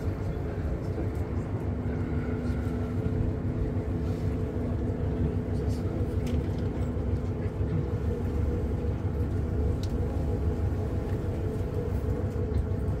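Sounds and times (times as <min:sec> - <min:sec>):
electric boat rumbling: 0:00.0 - 0:13.0.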